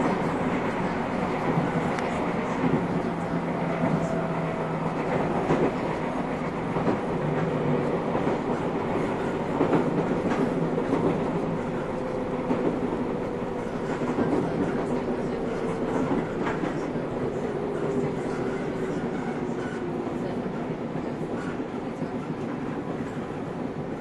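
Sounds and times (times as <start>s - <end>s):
rail-joint clacks: 0.0s - 23.9s
train wheels rumbling on rail: 0.0s - 24.0s.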